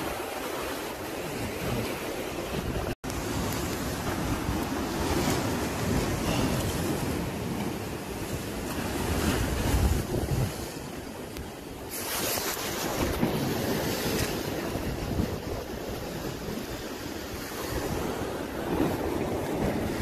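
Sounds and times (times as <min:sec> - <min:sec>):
waves washing against concrete: 0:00.0 - 0:20.0
wind on microphone: 0:00.0 - 0:20.0.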